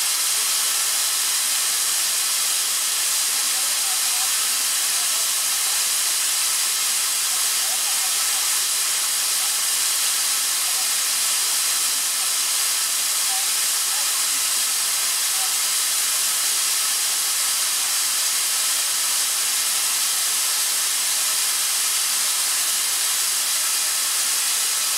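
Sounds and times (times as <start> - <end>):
air compressor hissing: 0.0 - 24.9.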